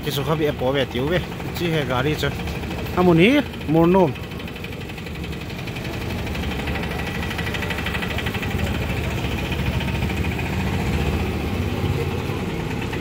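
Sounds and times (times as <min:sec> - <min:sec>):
vehicle engine idling with clatter: 0:00.0 - 0:13.0.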